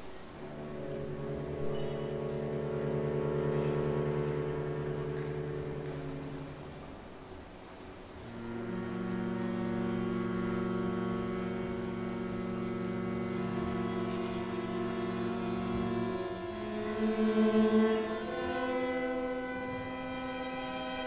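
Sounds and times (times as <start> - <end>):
chamber ensemble sustained notes: 0.0 - 21.0.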